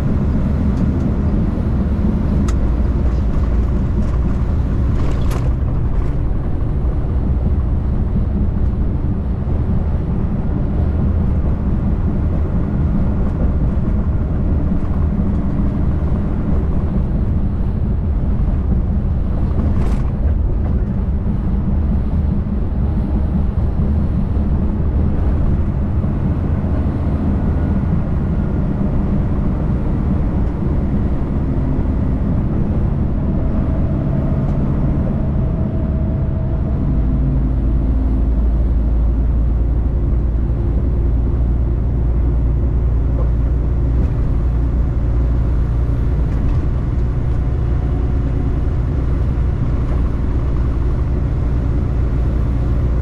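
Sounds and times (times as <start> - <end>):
truck diesel engine and road noise: 0.0 - 53.0.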